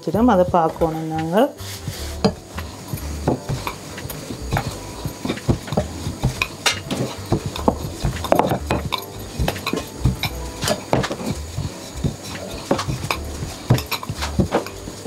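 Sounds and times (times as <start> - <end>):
rolling pin knocking on wooden board: 2.2 - 14.8.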